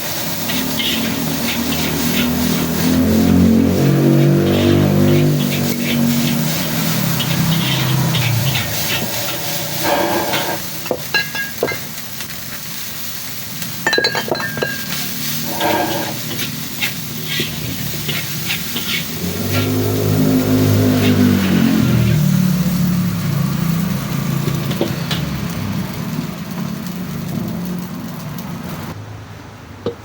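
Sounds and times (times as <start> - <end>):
vehicle engine: 0.0 - 13.8, 14.5 - 29.7
metal spatula scraping wok: 0.0 - 28.3
frying sizzle: 0.0 - 29.0.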